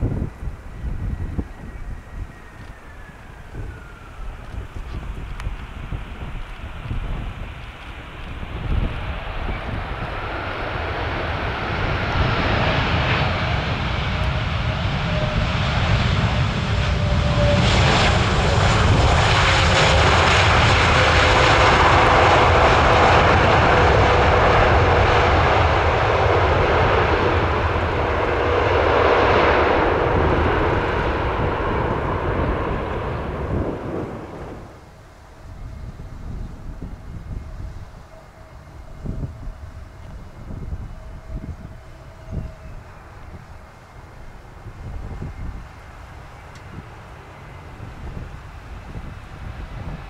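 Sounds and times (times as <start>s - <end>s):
jet engines roaring: 0.0s - 50.0s
thin engine whine: 0.0s - 50.0s.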